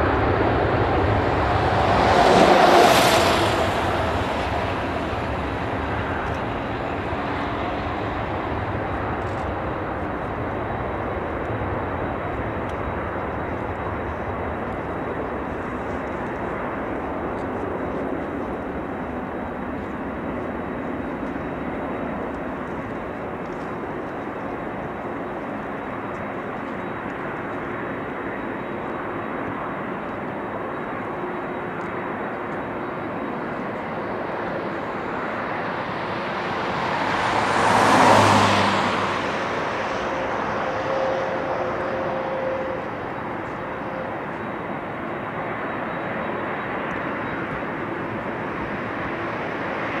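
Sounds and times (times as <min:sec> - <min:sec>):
distant jet engine rumble: 0:00.0 - 0:50.0.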